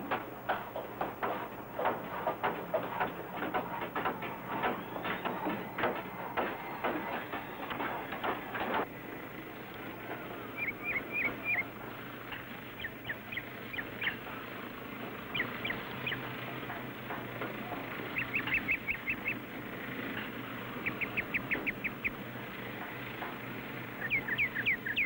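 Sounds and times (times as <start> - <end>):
soundtrack hiss and hum: 0.0 - 25.0.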